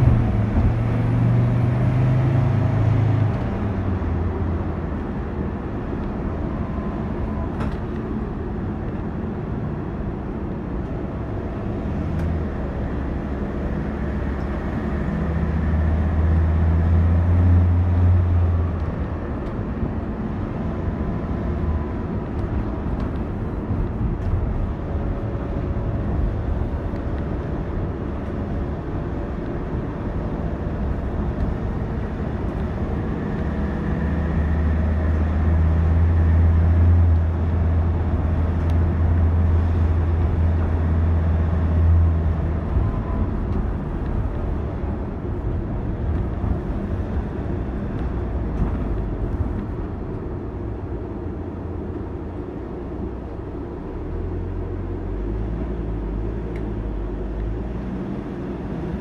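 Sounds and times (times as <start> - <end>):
low engine drone: 0.0 - 59.0.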